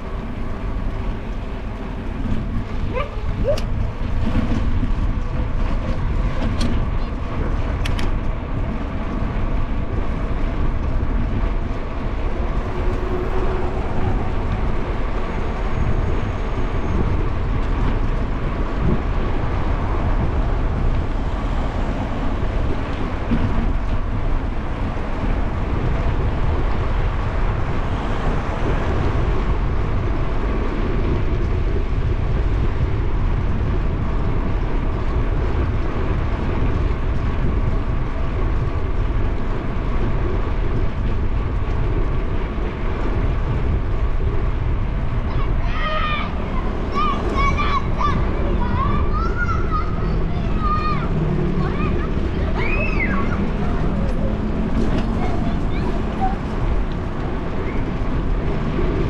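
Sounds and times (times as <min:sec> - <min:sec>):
bicycle tyres rolling: 0:00.0 - 0:59.0
wind on microphone: 0:00.0 - 0:59.0.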